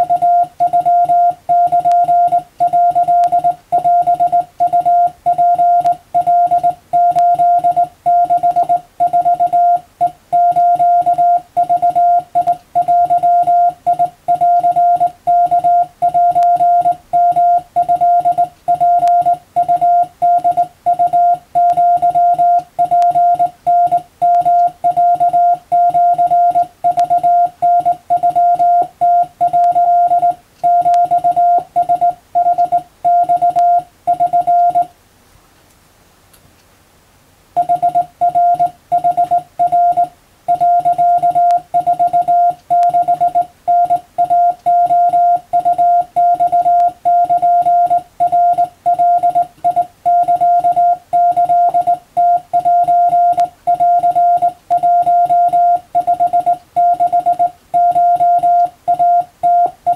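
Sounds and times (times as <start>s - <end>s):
morse code beeps: 0.0s - 34.9s, 37.6s - 59.9s.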